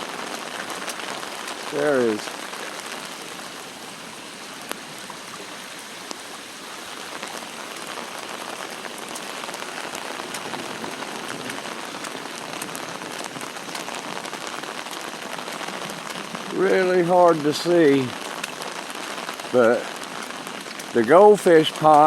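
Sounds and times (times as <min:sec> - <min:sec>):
sharp raindrop hits: 0:00.0 - 0:03.7, 0:06.9 - 0:22.0
rain pattering: 0:00.0 - 0:22.0.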